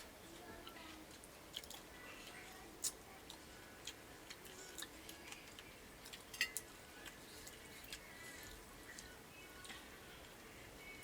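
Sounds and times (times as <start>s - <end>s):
person eating: 0.6s - 10.9s.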